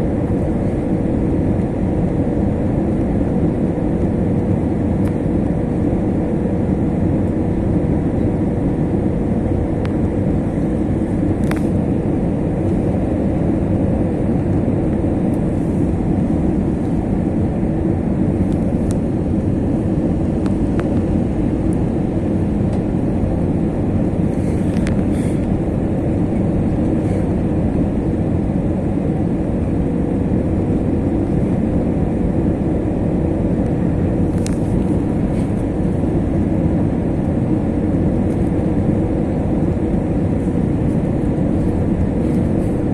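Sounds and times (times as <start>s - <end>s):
airliner cabin engine and airflow noise: 0.0s - 42.9s
faint steady hum: 0.0s - 42.9s.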